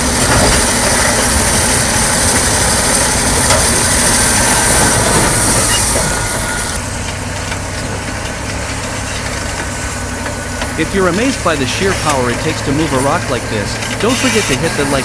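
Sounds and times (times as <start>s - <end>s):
bulldozer diesel engine: 0.0s - 15.0s
steel tracks clattering: 0.0s - 15.0s.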